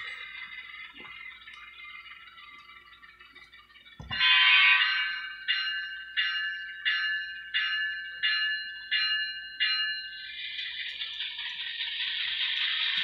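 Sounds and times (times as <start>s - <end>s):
locomotive bell ringing: 0.0s - 13.0s.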